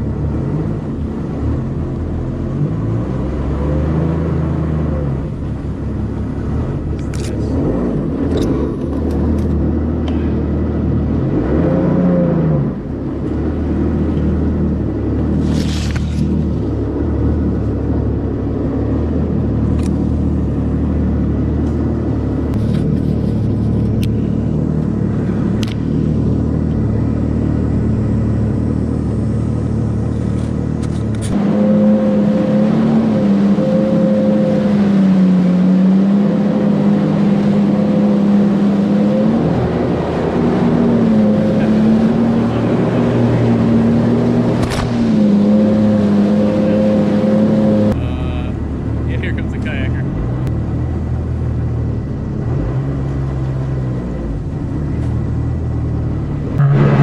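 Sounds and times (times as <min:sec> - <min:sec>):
jet ski engine running: 0:04.1 - 0:11.4, 0:12.6 - 0:52.4.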